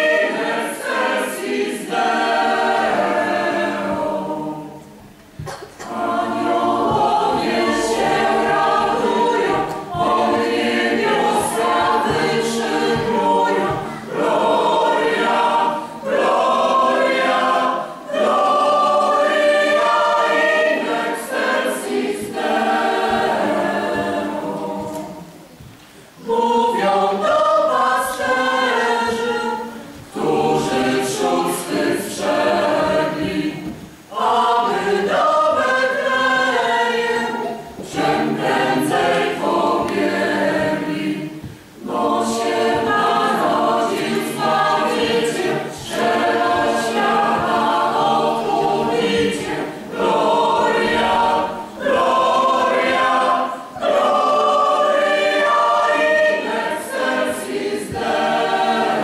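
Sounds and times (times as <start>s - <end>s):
mixed choir singing a carol: 0.0s - 59.0s.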